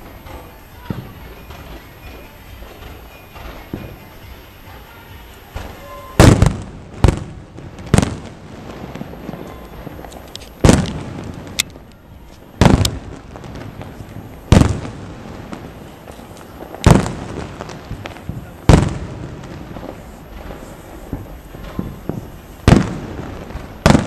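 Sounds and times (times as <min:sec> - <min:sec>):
firework shells bursting: 0:00.0 - 0:24.0.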